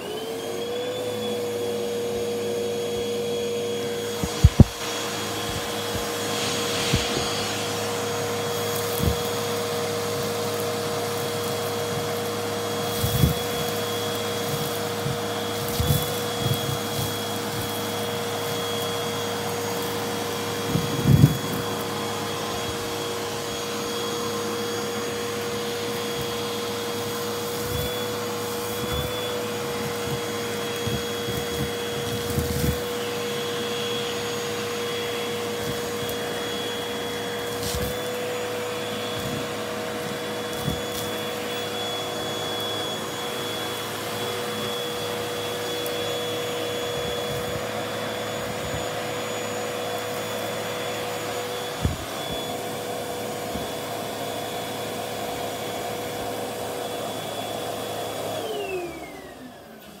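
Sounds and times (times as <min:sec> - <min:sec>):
motor spinning down: 0:00.0 - 0:56.4
vacuum cleaner motor whine: 0:00.0 - 1:00.0.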